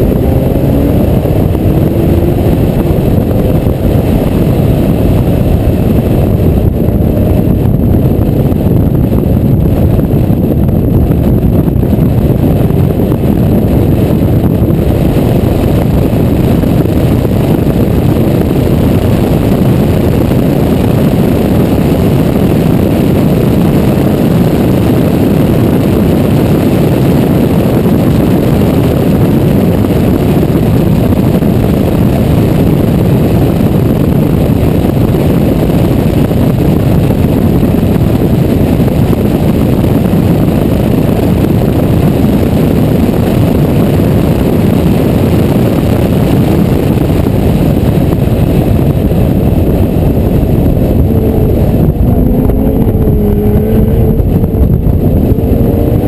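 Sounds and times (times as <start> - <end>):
car engine at speed: 0.0 - 56.0
wind rush: 0.0 - 56.0.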